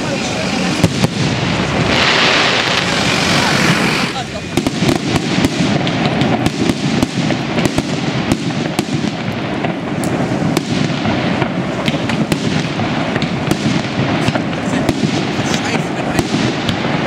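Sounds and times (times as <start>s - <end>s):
fireworks bursting: 0.0s - 17.0s
sharp bangs and crackles: 0.0s - 17.0s.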